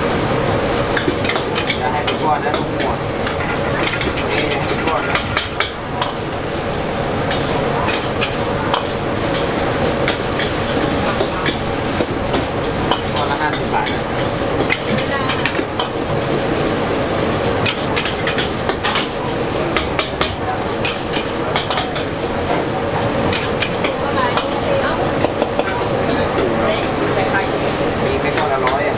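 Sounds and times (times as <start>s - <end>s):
noodles sizzling: 0.0s - 28.9s.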